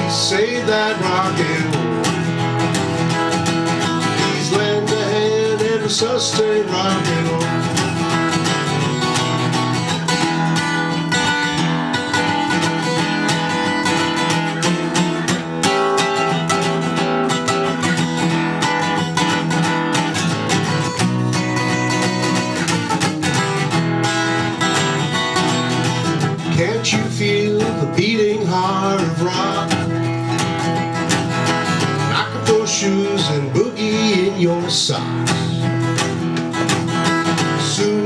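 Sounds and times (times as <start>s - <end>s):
guitar strummed in rockabilly rhythm: 0.0s - 38.0s.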